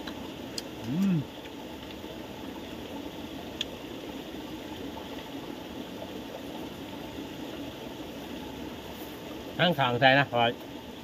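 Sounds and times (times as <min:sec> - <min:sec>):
stream water flowing: 0:00.0 - 0:11.0.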